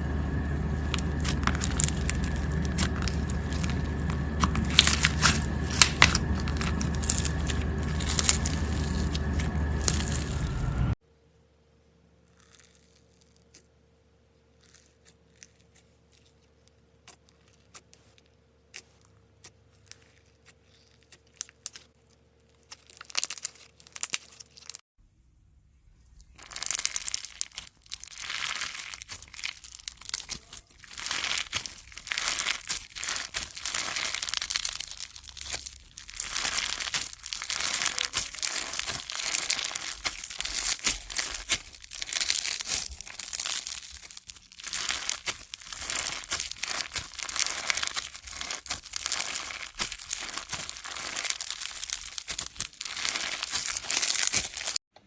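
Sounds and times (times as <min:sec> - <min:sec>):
loud crackling and crinkling: 0:00.0 - 0:11.0, 0:12.2 - 0:13.8, 0:14.4 - 0:24.8, 0:26.2 - 0:54.8.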